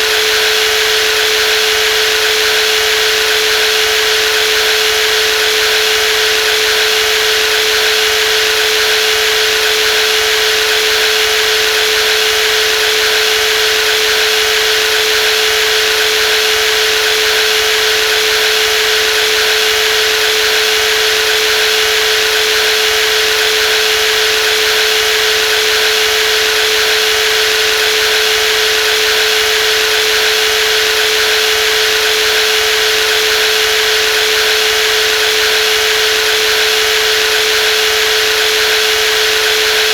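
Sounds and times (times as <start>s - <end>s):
jigsaw motor whining: 0.0s - 39.9s.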